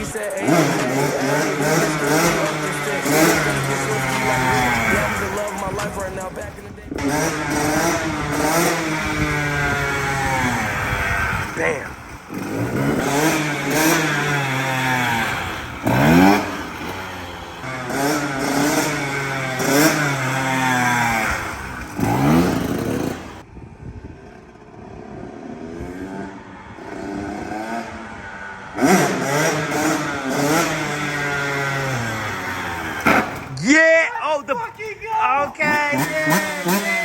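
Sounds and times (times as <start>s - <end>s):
dirt bike engine revving: 0.0s - 23.5s, 24.2s - 37.0s.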